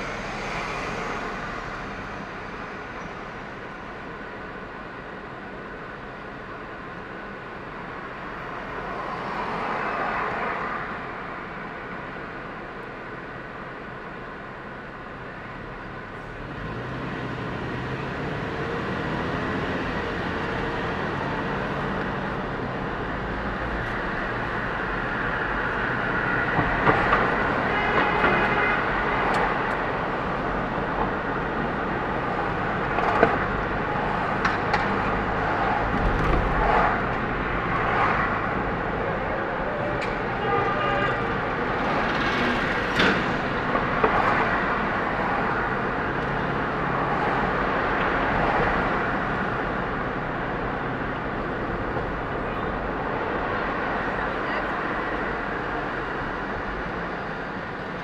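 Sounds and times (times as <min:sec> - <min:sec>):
car road noise: 0:00.0 - 0:58.0.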